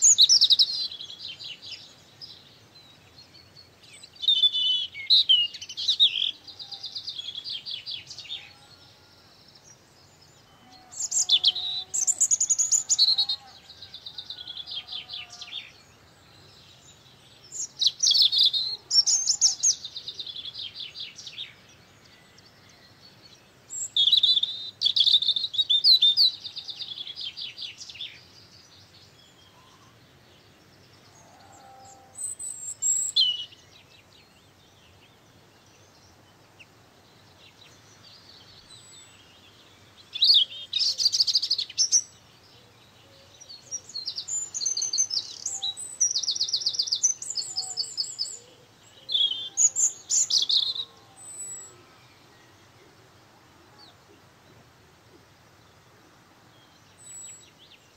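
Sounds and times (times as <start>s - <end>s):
songbird chirping and trilling: 0.0s - 57.9s.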